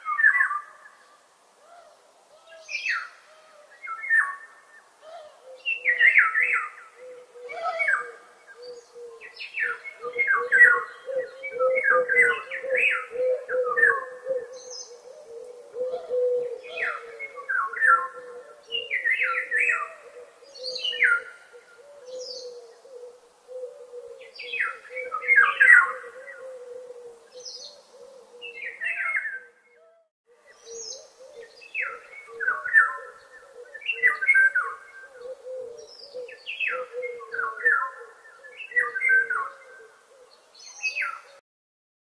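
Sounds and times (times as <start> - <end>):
birds chirping: 5.5 - 26.7, 27.3 - 41.4.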